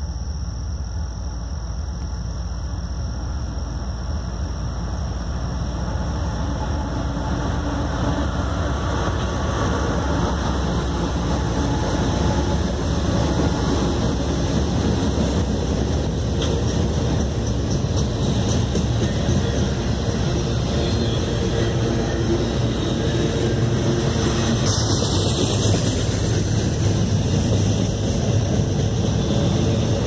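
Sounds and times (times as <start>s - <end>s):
diesel locomotives rumbling: 0.0s - 30.0s
freight cars rolling on rails: 4.1s - 30.0s.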